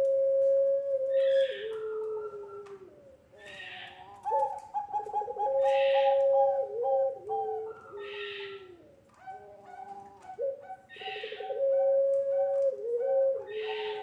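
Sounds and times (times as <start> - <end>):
doves cooing: 0.0 - 14.0.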